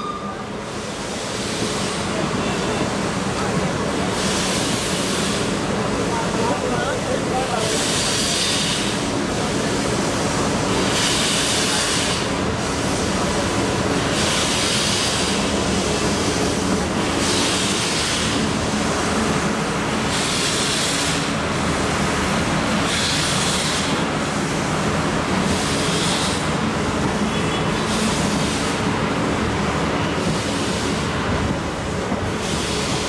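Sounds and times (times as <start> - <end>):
train rumbling: 0.0 - 33.0
steam hissing: 0.2 - 27.0, 27.7 - 33.0.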